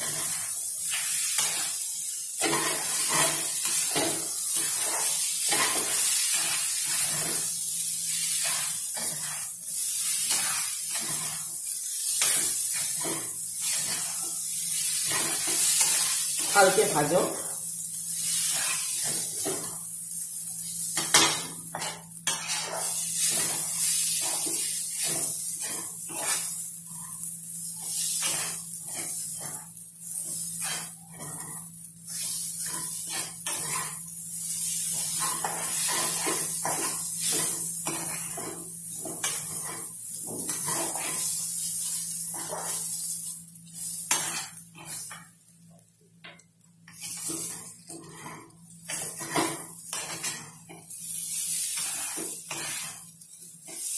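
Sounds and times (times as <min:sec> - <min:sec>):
spatula scraping a wok: 0:00.0 - 0:45.4, 0:46.9 - 0:53.9
frying hiss: 0:00.0 - 0:53.9.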